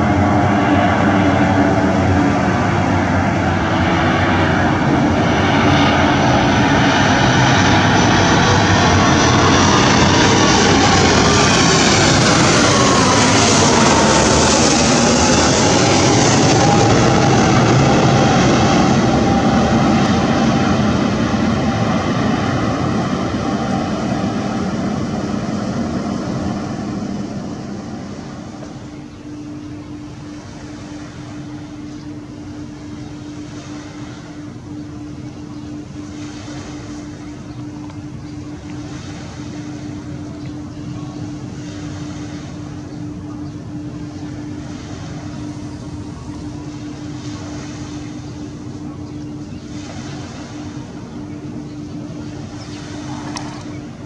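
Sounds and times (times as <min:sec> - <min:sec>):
jet roar with falling whine: 0:00.0 - 0:54.0
low steady drone: 0:00.0 - 0:54.0.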